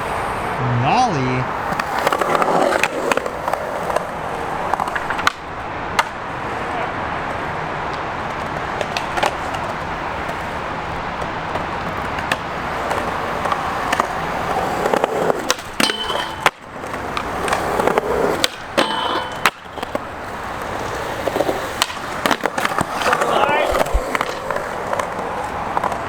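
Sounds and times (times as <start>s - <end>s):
skateboard clack: 0.0s - 26.0s
skateboard wheels rolling on concrete: 0.0s - 26.0s.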